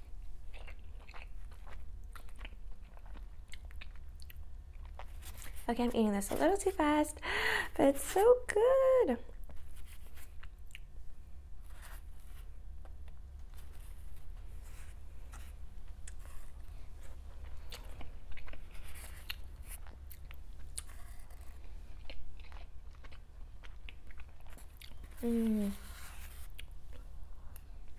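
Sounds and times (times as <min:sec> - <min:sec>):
person chewing food: 0:00.0 - 0:05.7, 0:09.3 - 0:27.9
steady low hum: 0:00.0 - 0:27.9.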